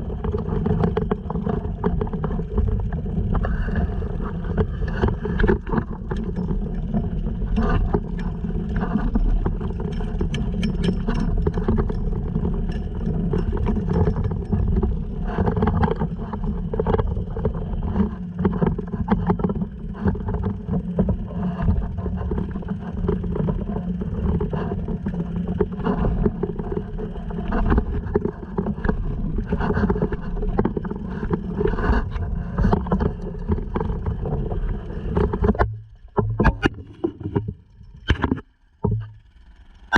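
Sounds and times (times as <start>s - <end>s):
outboard motor running: 0.0s - 39.9s
water splashing against hull: 0.0s - 39.9s.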